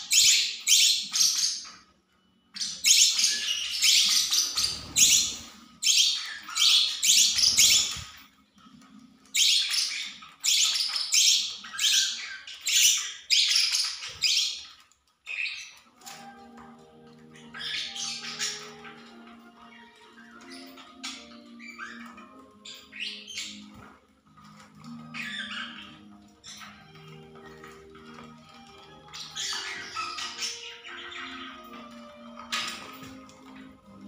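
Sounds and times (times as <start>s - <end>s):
parrots squawking: 0.0s - 34.0s.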